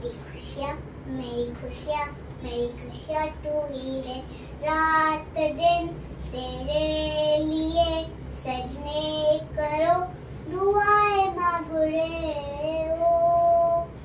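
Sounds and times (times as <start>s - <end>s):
girl singing unaccompanied: 0.0s - 14.0s.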